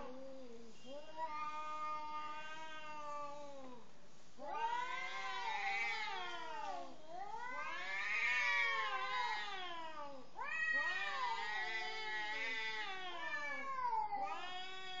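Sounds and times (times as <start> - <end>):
cats caterwauling: 0.0 - 3.8, 4.4 - 15.0.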